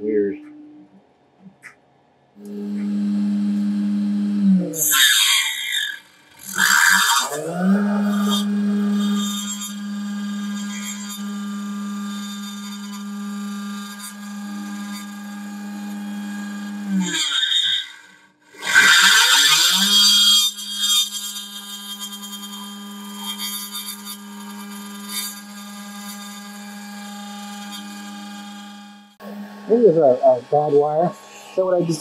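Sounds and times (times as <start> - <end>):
harsh metal cutting noise: 2.4 - 32.0
spindle motor whine: 2.4 - 32.0.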